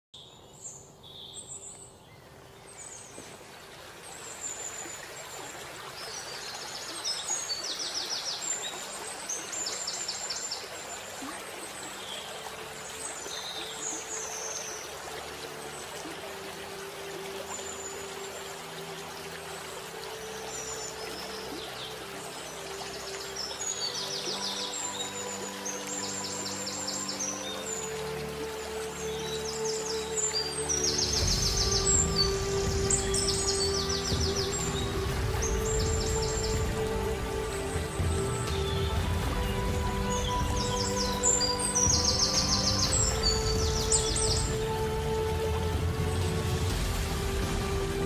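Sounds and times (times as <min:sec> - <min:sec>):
birds chirping and trilling: 0:00.2 - 0:48.0
running water: 0:00.7 - 0:48.0
soft background music: 0:02.7 - 0:48.0.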